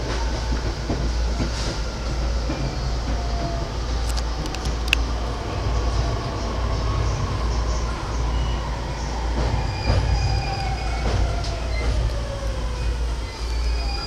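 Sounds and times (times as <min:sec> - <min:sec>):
train rumble on rails: 0:00.0 - 0:14.0
train whine sliding down: 0:00.0 - 0:14.0.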